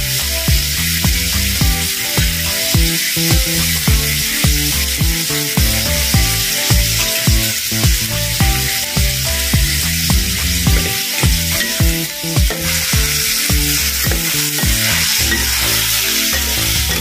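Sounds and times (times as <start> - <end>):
background music with steady beat: 0.0 - 17.0
food sizzling in a wok: 0.0 - 17.0
spatula turning food: 0.0 - 17.0.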